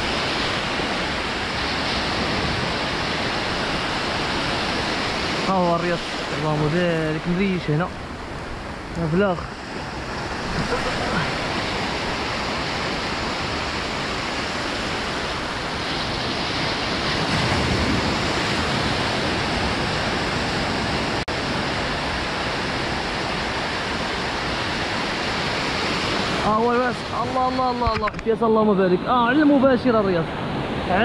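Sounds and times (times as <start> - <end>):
surf breaking on sand: 0.0 - 31.0.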